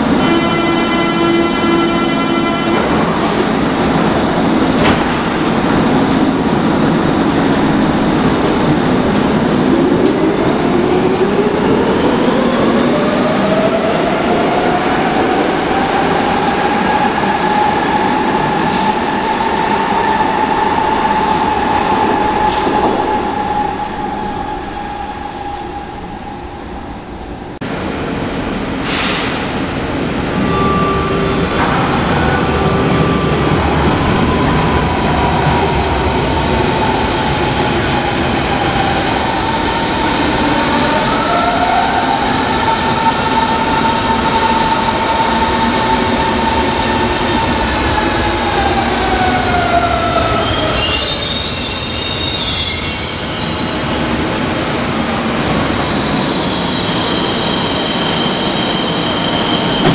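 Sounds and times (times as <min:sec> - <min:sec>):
train arriving: 0:00.0 - 0:59.9.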